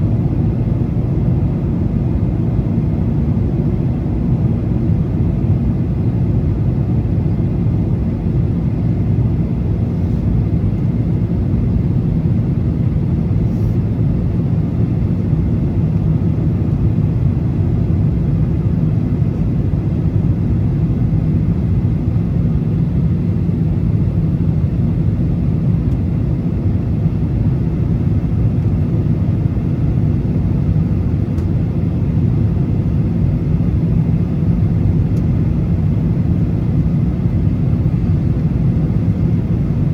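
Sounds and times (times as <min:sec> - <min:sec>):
airplane engines rumbling in cabin: 0:00.0 - 0:39.9.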